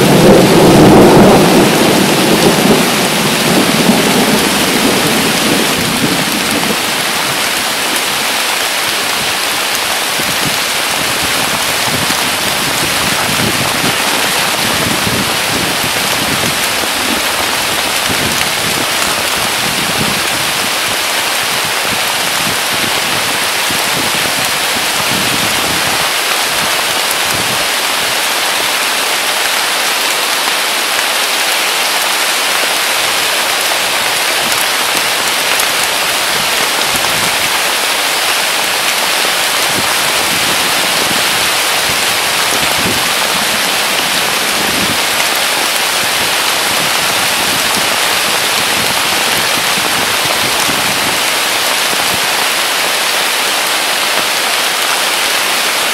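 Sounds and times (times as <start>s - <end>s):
heavy rain on foliage: 0.0s - 55.9s.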